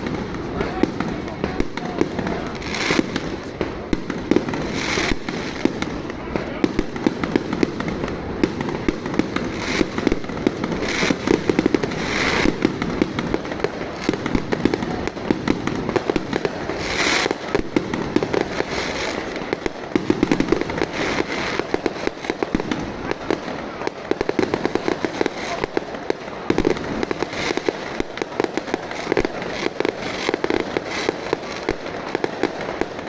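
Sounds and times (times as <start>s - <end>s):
fireworks and firecrackers banging: 0.0s - 33.0s.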